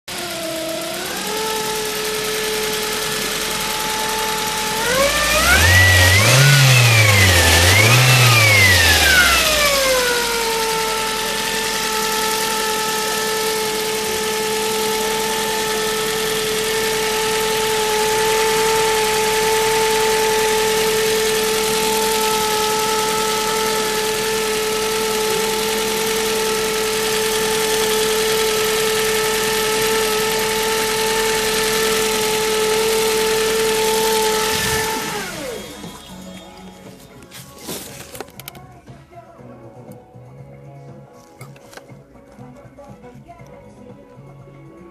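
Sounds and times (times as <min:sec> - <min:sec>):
car engine idling and revving: 0:00.0 - 0:38.6.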